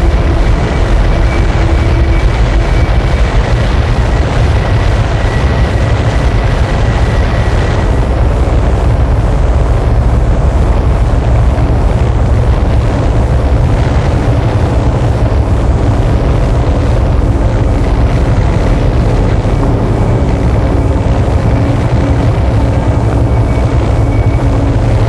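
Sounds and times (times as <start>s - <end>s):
distorted noise wall: 0.0s - 25.0s.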